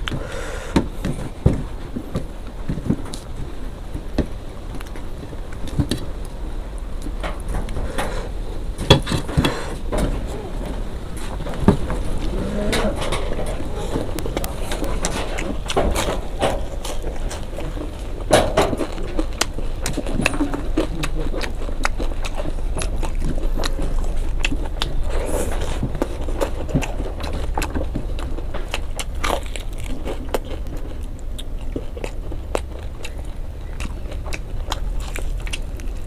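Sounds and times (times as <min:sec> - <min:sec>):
low steady hum: 0:00.0 - 0:36.0
chewing: 0:07.0 - 0:36.0.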